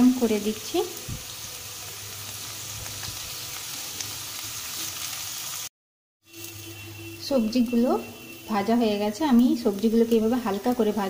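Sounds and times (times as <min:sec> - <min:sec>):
vegetables sizzling in hot fat: 0:00.0 - 0:11.0.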